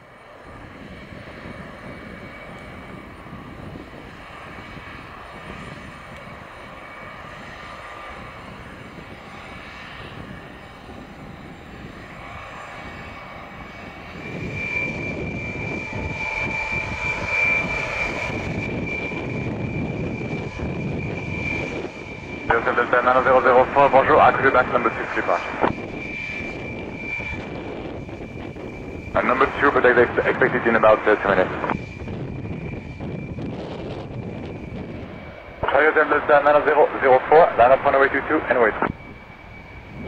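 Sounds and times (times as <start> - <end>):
jet engines running: 0.0 - 40.0
steady high whine: 0.0 - 40.0.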